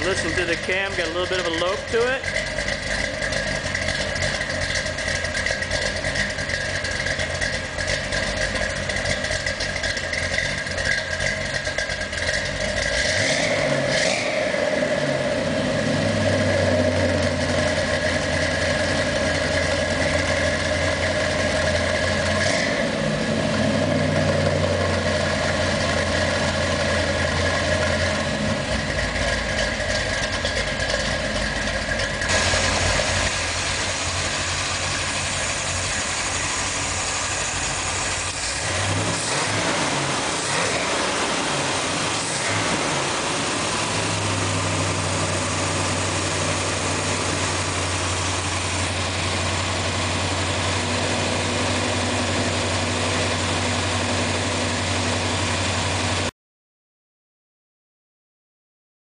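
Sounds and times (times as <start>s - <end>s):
car engine idling: 0.0s - 56.3s.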